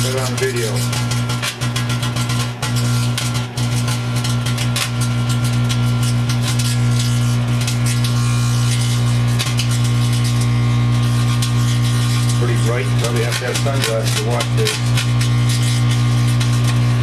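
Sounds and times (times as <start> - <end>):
microwave oven humming: 0.0 - 17.0
plasma crackling: 0.0 - 17.0.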